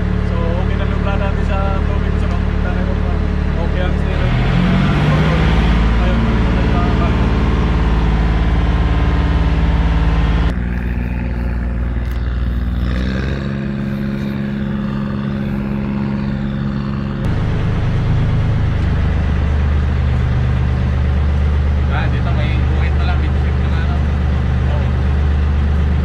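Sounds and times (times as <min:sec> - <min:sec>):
diesel engine inside cabin: 0:00.0 - 0:26.0
engine heard from outside: 0:00.0 - 0:26.0.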